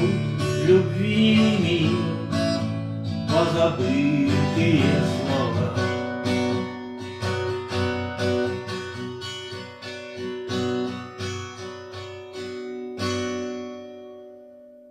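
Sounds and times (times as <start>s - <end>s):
acoustic guitar picking and strumming: 0.0s - 14.9s.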